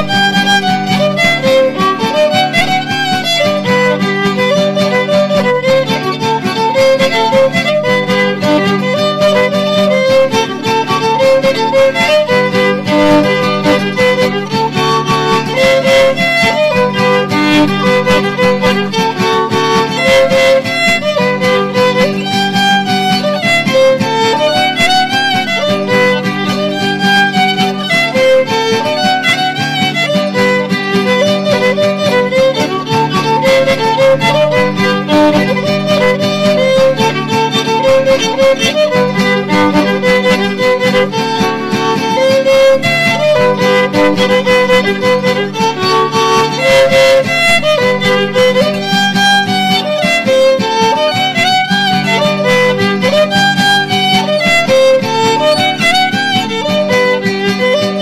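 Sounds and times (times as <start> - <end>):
steady instrumental accompaniment: 0.0 - 58.0
violin melody: 0.0 - 58.0.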